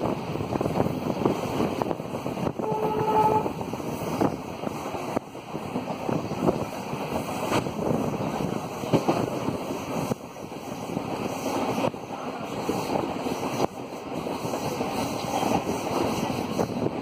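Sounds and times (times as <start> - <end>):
train rumbling at speed: 0.0 - 17.0
wind buffeting microphone: 0.0 - 17.0.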